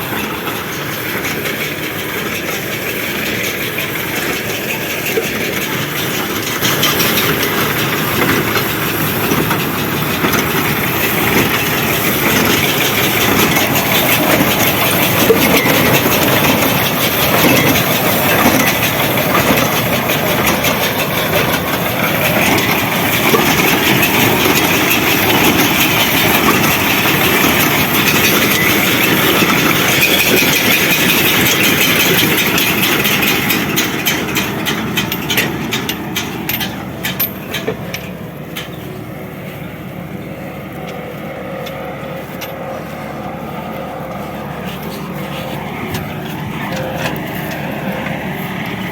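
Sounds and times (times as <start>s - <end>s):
machinery clattering and rattling: 0.0s - 48.9s
tractor engine running: 0.0s - 48.9s.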